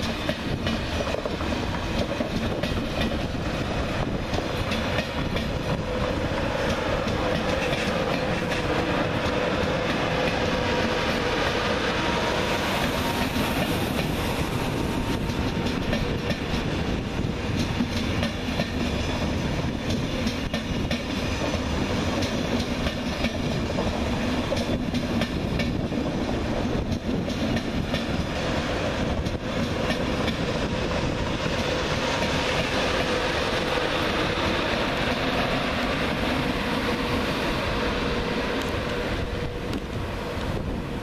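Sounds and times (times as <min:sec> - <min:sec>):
steady train tone: 0:00.0 - 0:41.0
train wheels rushing on rail: 0:00.0 - 0:41.0.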